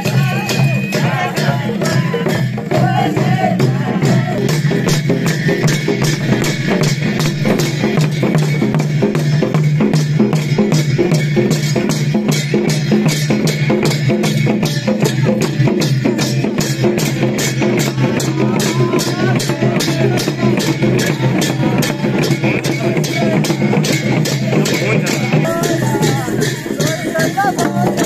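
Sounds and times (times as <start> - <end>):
dance music on drums: 0.0 - 28.0
hand cymbals: 0.0 - 28.0.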